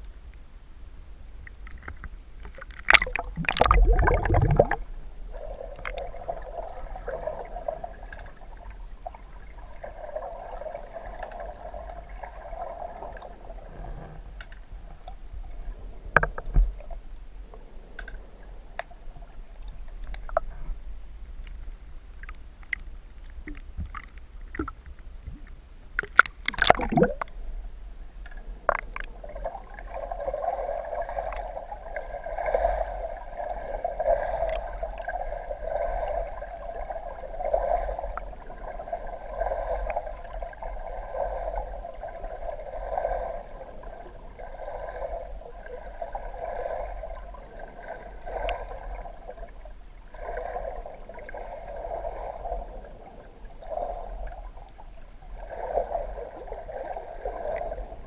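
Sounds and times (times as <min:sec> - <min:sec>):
muffled underwater surging water: 0:00.9 - 0:58.0.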